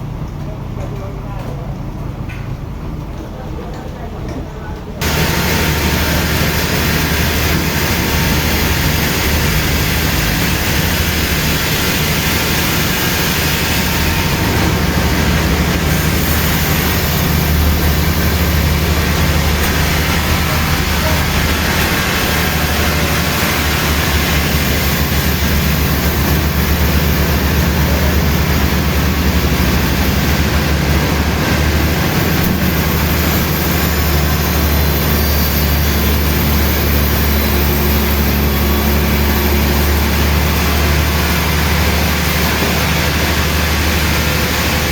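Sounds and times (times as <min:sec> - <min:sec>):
sawmill machinery running: 0:05.0 - 0:44.9.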